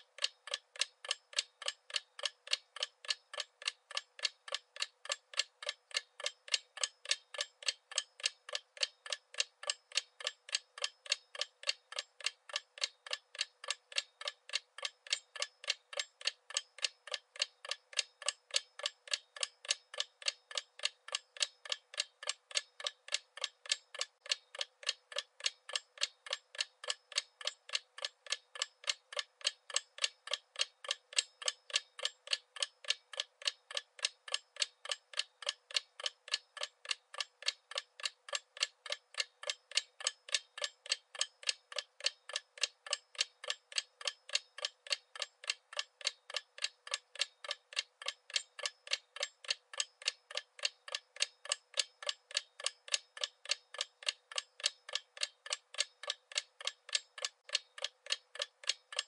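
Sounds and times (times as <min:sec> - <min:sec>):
clock ticking: 0:00.0 - 0:59.0.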